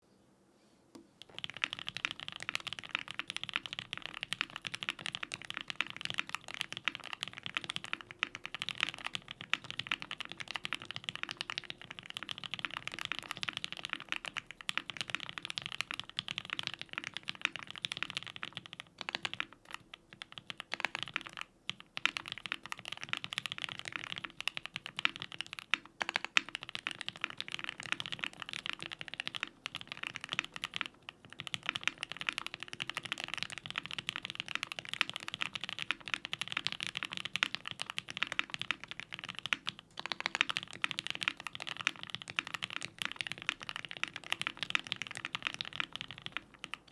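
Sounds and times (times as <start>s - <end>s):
fast typing on mechanical keyboard: 1.2s - 46.9s.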